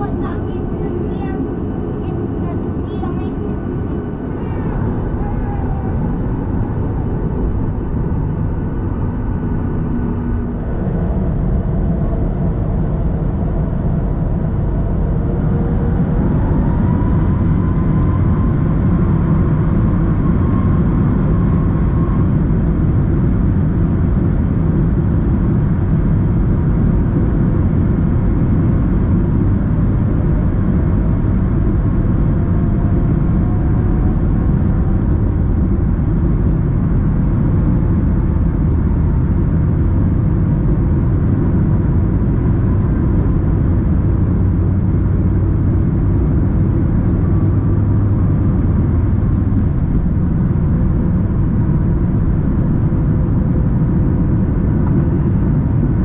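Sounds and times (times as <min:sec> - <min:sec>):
engine whine rising in pitch: 0:00.0 - 0:56.0
jet engines at takeoff power: 0:00.0 - 0:56.0.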